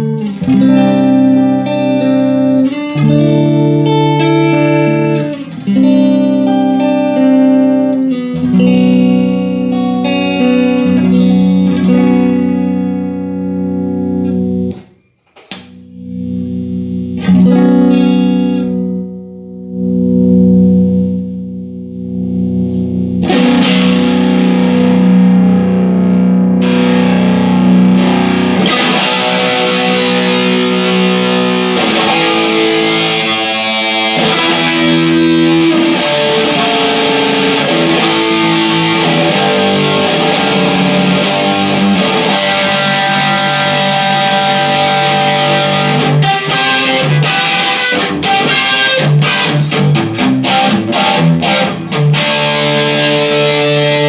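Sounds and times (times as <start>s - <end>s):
electric guitar through amplifier: 0.0s - 54.0s.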